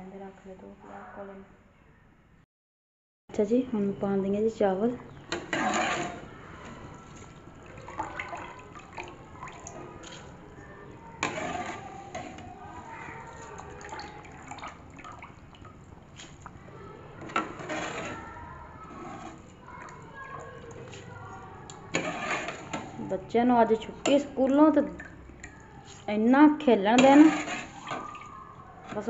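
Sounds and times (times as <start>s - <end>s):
pot of water bubbling: 4.5s - 29.0s.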